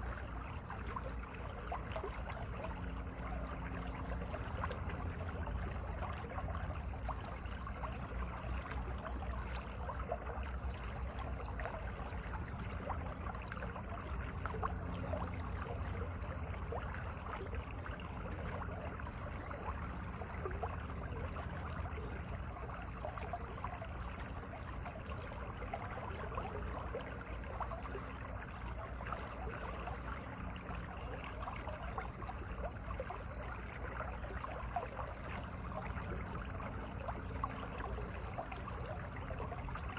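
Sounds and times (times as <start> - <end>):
small water splashes: 0.0 - 39.9
stream water rushing: 0.0 - 39.9.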